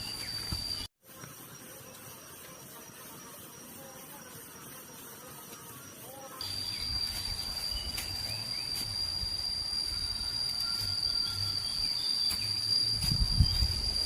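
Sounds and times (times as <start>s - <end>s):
insect high-pitched trill: 0.0s - 14.0s.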